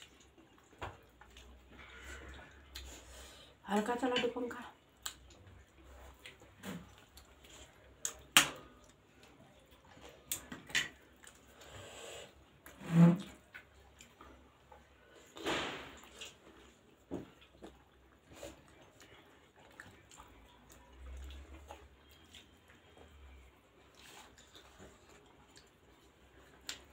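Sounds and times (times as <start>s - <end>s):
chewing and mouth noises: 0.0s - 3.3s, 4.8s - 15.4s, 16.0s - 26.9s.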